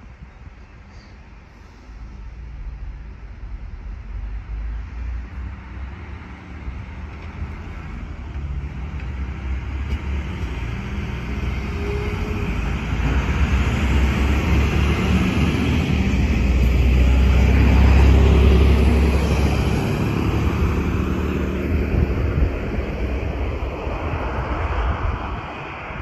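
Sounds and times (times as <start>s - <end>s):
diesel engine drone: 0.0s - 26.0s
wheels rushing on rails: 0.9s - 26.0s.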